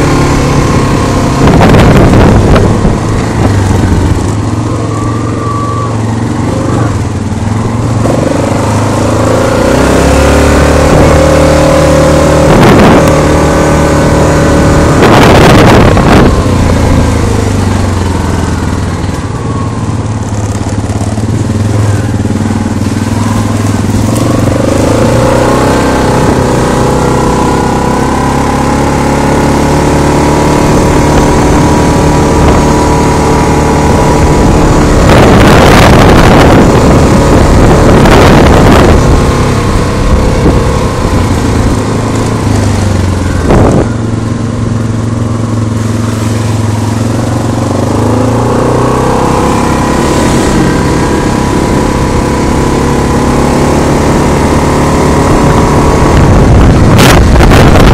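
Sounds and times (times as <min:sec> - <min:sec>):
loud rushing noise: 0:00.0 - 0:57.9
quad engine running: 0:00.0 - 0:57.9.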